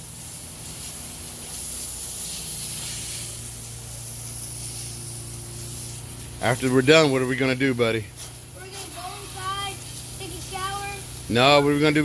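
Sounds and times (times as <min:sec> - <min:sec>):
water spraying: 0:00.0 - 0:12.0.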